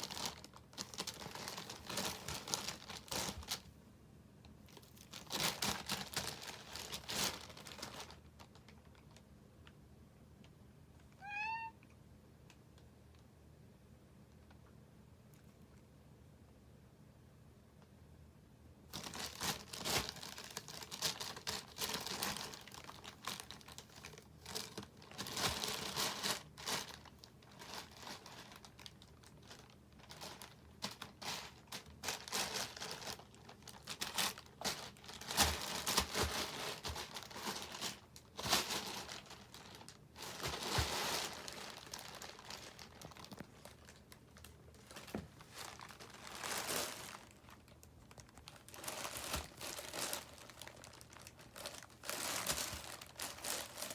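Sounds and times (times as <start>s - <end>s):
plastic wrapper rustling: 0.0s - 3.8s, 4.7s - 9.3s, 18.9s - 53.9s.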